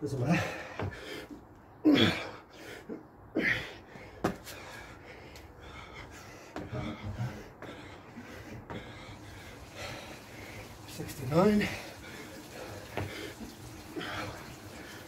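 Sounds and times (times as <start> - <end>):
man breathing hard and gasping: 0.3 - 10.9, 11.6 - 15.0.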